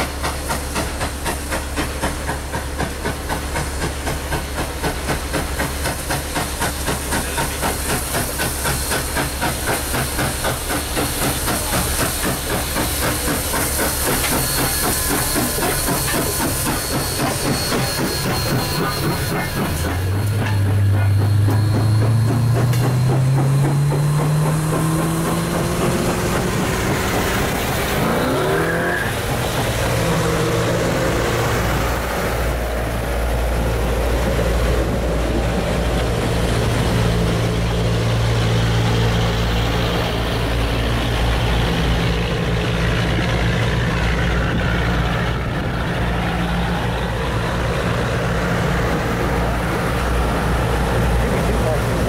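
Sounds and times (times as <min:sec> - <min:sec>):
steam hiss: 0:00.0 - 0:43.8
steam locomotive chuffing: 0:00.0 - 0:52.0.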